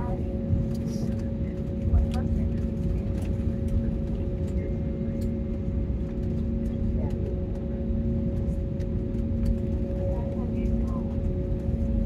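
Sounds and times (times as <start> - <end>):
airliner cabin rumble: 0.0 - 12.0
jet engine hum: 0.0 - 12.0.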